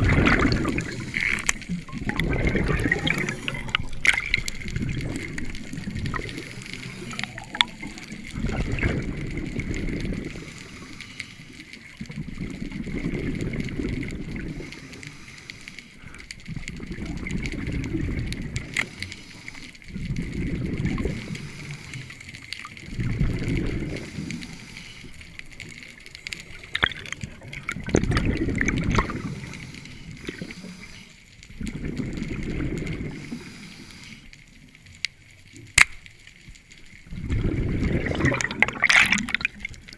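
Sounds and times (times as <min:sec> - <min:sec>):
exhaled bubbles underwater: 0:00.0 - 0:15.2, 0:16.0 - 0:34.0, 0:36.8 - 0:39.9.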